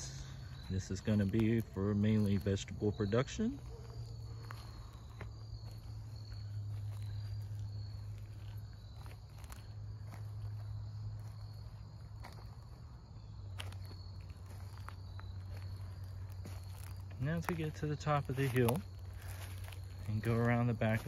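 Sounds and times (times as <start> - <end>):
footsteps on wood-chip mulch: 0.0 - 21.0
insects chirping: 0.0 - 21.0.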